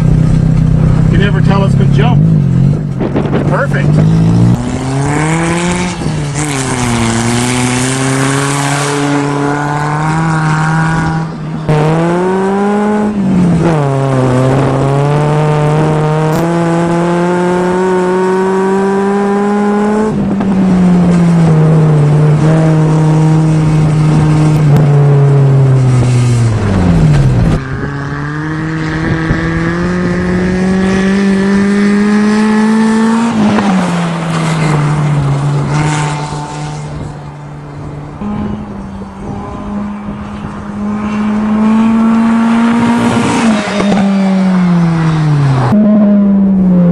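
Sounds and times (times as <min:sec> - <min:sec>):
car engine accelerating through gears: 0:00.0 - 0:46.9.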